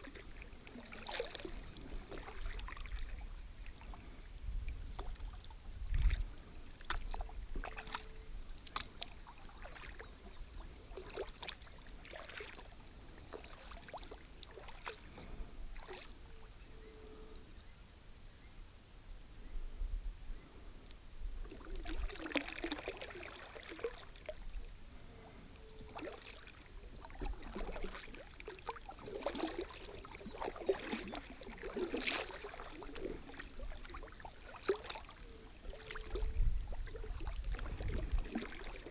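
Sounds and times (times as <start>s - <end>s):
paddle splashing in water: 0.0s - 16.2s, 21.4s - 38.9s.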